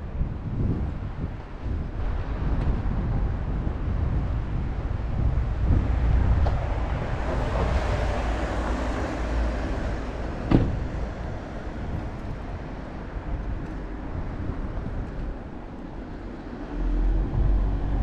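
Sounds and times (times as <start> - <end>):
traffic noise: 0.0 - 18.0
wind rumble on microphone: 0.0 - 18.0.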